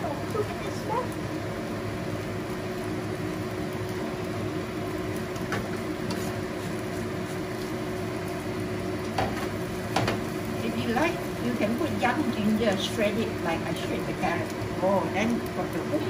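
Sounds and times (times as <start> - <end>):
low steady hum: 0.0 - 16.0
omelette sizzling in pan: 0.0 - 16.0.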